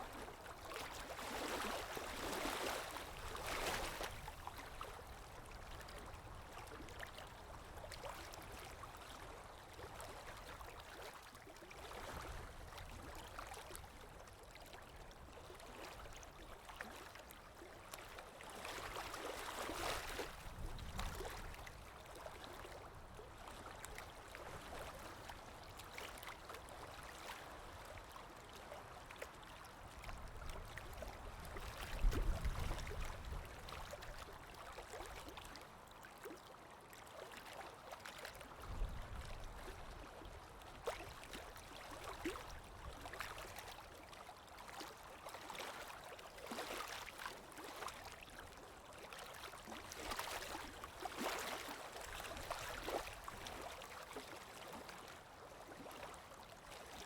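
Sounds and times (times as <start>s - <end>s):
water lapping and splashing: 0.0s - 57.0s.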